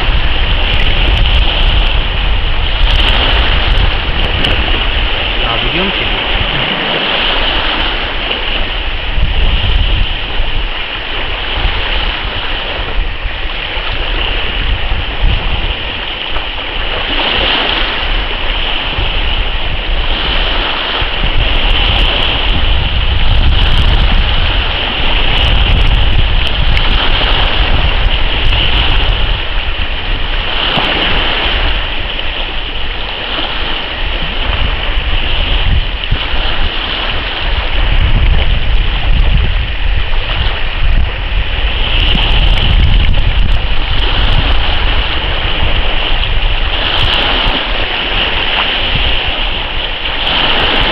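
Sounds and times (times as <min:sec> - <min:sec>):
choppy sea water hissing: 0:00.0 - 0:50.9
wind buffeting microphone: 0:00.0 - 0:50.9.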